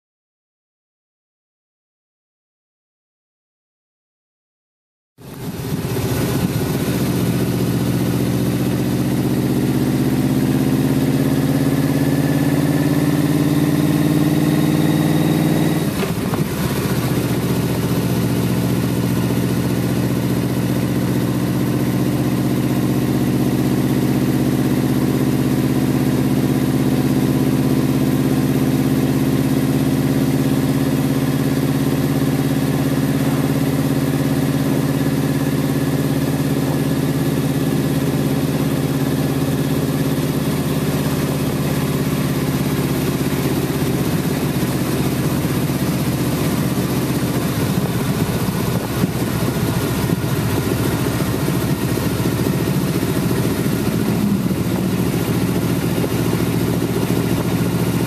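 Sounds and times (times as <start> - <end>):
car engine from inside cabin: 5.2 - 58.0.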